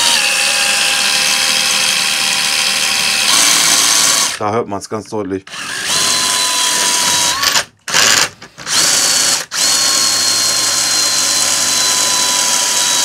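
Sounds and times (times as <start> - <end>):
cordless drill whining: 0.0 - 4.4, 5.5 - 13.0.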